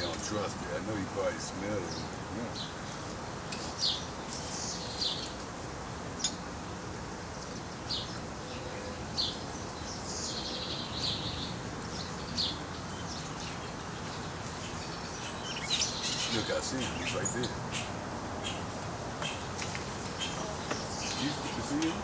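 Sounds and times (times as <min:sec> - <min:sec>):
birds chirping: 0:00.0 - 0:05.4, 0:07.3 - 0:22.0.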